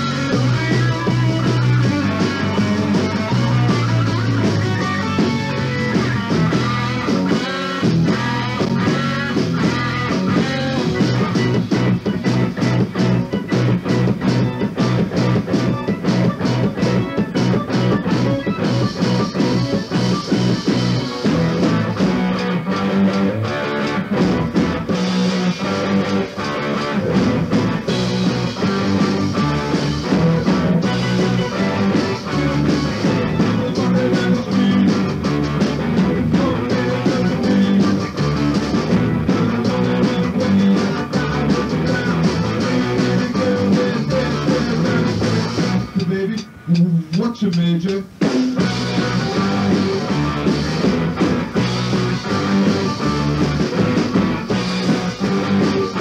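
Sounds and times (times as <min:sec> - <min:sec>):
guitar: 0:00.0 - 0:56.0
steady drum beat: 0:00.0 - 0:56.0.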